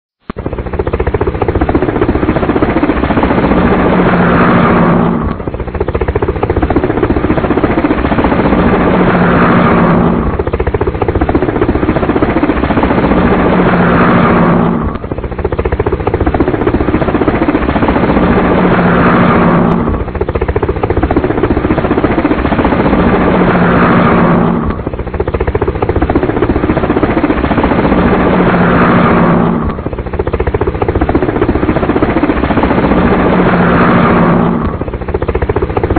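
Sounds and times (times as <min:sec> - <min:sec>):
helicopter rotor and engine noise: 0:00.2 - 0:35.9.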